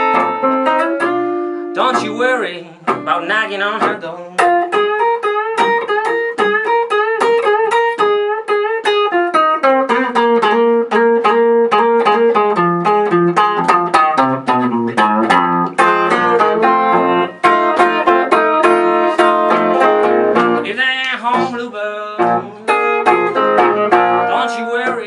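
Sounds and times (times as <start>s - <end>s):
blues guitar playing: 0.0s - 25.0s.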